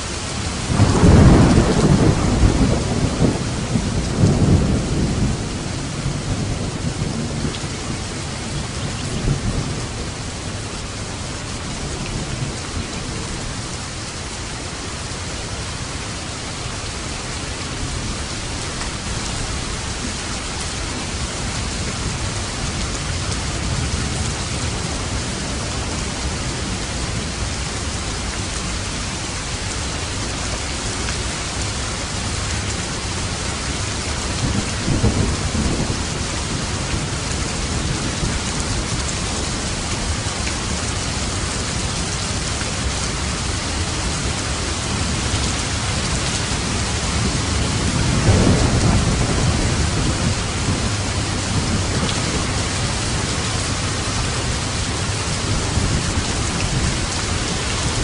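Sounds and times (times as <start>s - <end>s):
heavy rain falling: 0.0s - 58.0s
low thunder rumbling: 0.6s - 13.8s, 17.6s - 58.0s.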